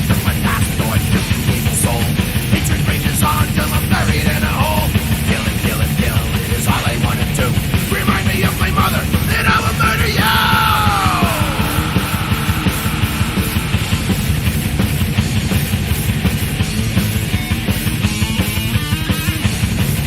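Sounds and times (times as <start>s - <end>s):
thrash metal band: 0.0s - 20.0s.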